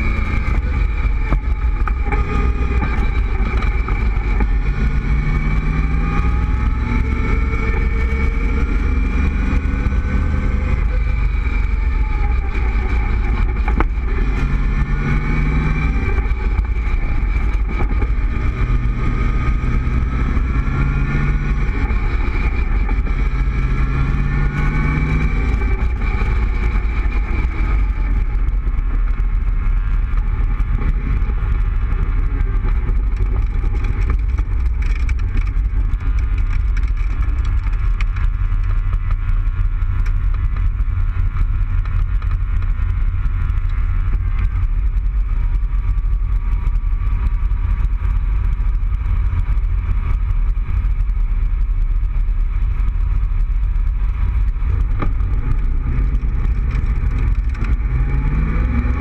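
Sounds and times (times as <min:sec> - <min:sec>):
car engine cruising: 0:00.0 - 0:59.0
wind rumble on microphone: 0:00.0 - 0:59.0.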